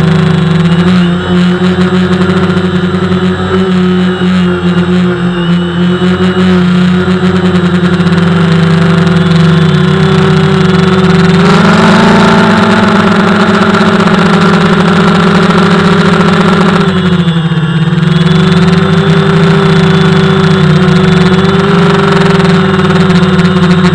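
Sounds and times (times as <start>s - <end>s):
drone propellers humming: 0.0s - 23.9s.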